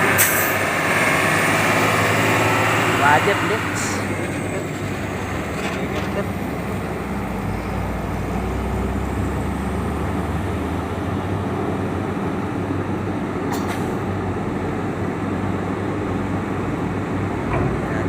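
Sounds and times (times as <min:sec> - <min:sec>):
diesel truck engines running: 0:00.0 - 0:18.0.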